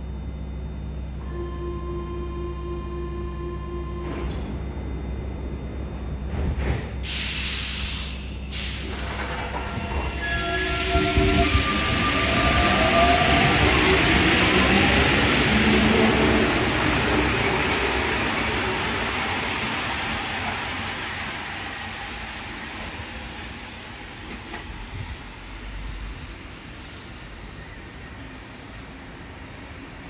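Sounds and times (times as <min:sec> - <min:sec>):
train rolling into tunnel: 0:01.2 - 0:30.0.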